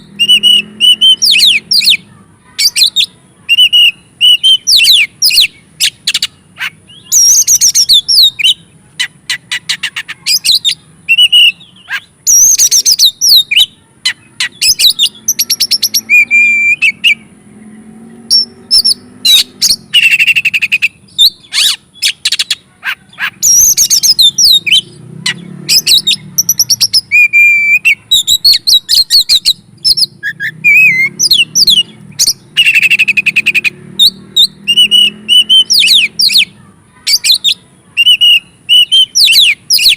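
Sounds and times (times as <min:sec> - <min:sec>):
songbird singing whistled phrases: 0:00.0 - 0:17.3, 0:18.3 - 0:39.9.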